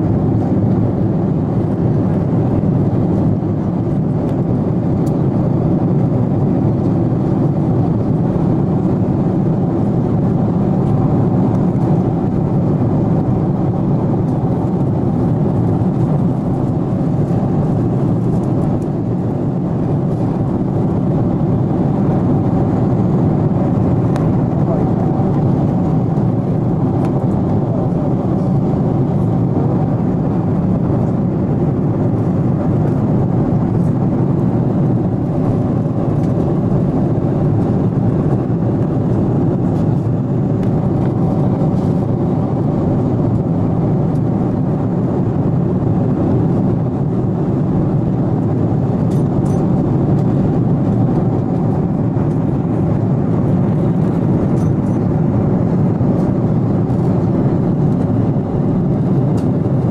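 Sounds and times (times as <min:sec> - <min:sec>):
airliner engine and airflow noise: 0:00.0 - 0:59.9.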